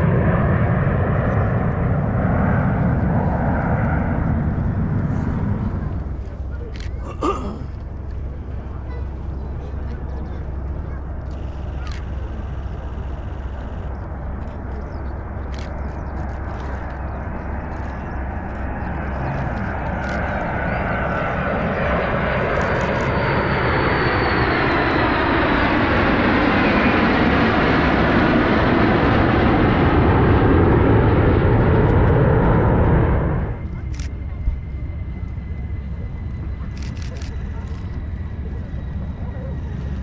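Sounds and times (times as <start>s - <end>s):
jet engines flying over: 0.0s - 40.0s.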